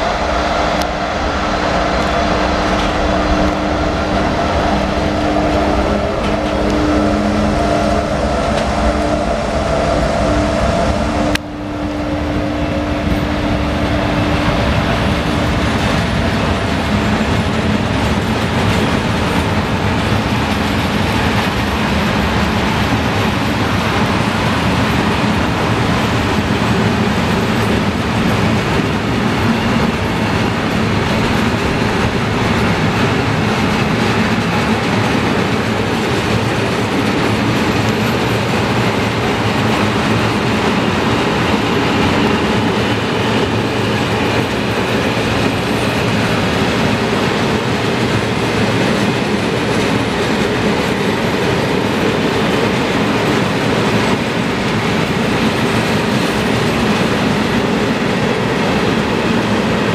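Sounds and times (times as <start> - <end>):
steel train wheels on rails: 0.0 - 59.9.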